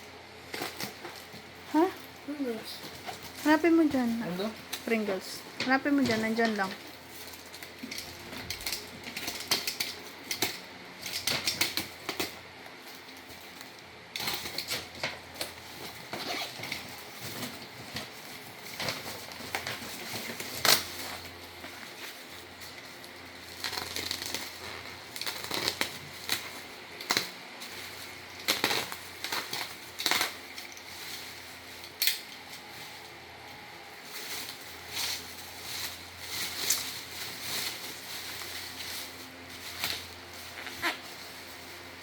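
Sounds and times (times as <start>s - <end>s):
cardboard and plastic rustling: 0.3s - 42.0s.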